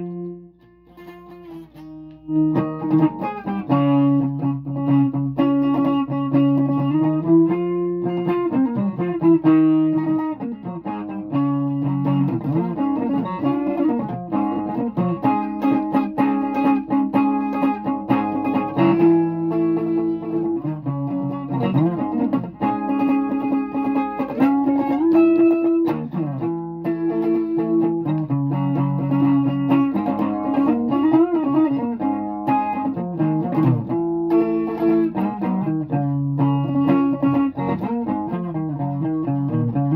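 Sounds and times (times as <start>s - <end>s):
guitar playing: 0.0s - 39.9s.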